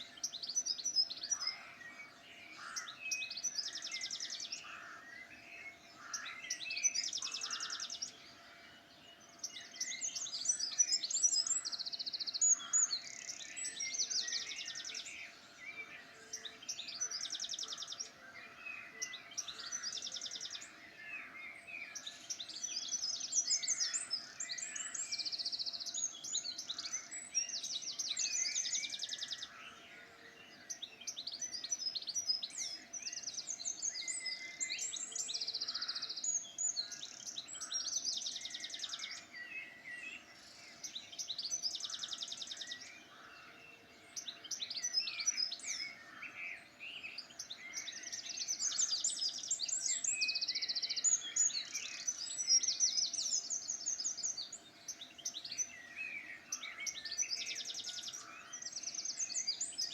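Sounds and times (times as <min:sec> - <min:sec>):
songbirds chirping and whistling: 0:00.0 - 0:59.9.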